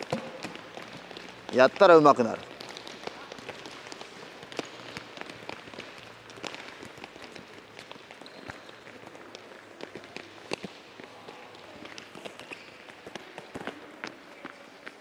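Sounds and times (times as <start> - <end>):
quick footsteps: 0.0 - 13.8
balls tapping on gym floor: 0.0 - 15.0.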